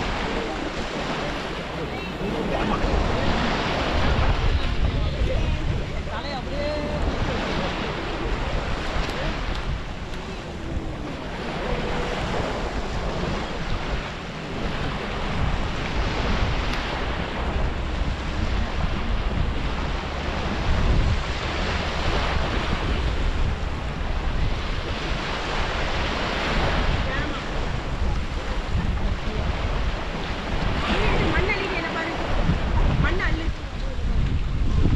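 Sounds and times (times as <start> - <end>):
small waves breaking on shore: 0.0 - 34.9
wind buffeting microphone: 0.0 - 34.9.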